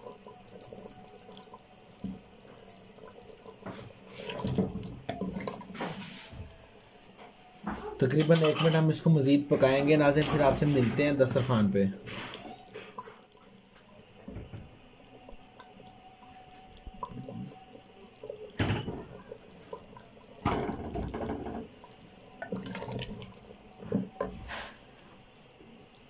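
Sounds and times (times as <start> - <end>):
curry bubbling in a pot: 0.0 - 26.0.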